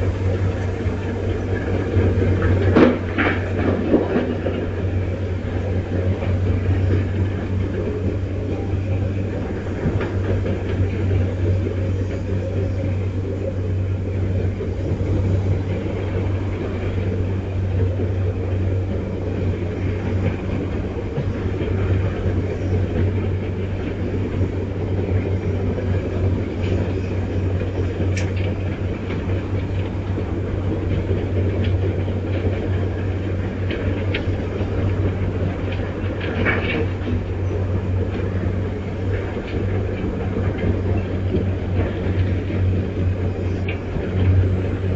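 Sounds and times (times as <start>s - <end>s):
strong wind buffeting microphone: 0.0s - 44.9s.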